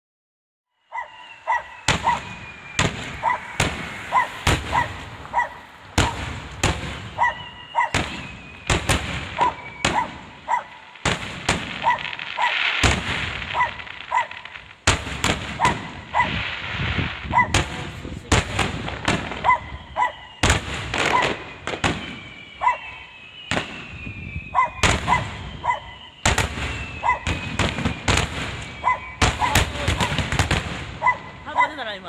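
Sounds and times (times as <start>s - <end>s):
fireworks booming: 1.0s - 32.0s
fireworks crackling hiss: 1.1s - 32.0s.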